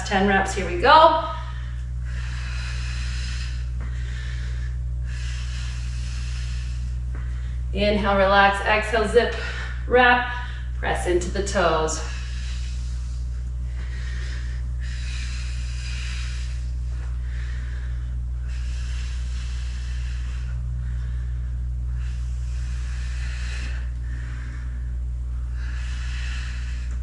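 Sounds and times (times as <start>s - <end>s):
steady low hum: 0.0s - 27.0s
woman breathing hard: 0.8s - 27.0s.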